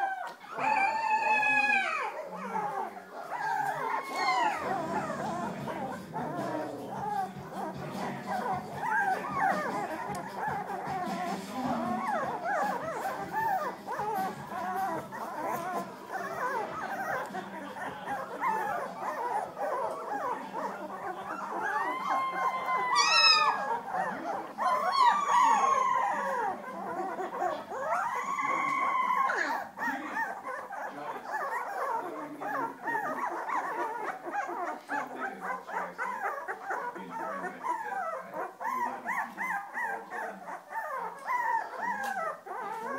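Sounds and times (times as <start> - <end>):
puppies whimpering and squealing: 0.0 - 42.9
puppy howling cries: 0.0 - 42.9.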